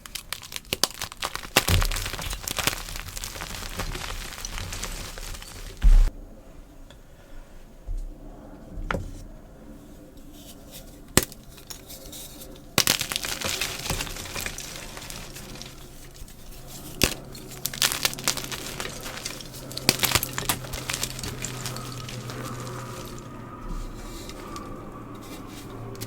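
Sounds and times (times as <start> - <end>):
chalk crunching and crackling: 0.0 - 6.1, 10.2 - 26.0.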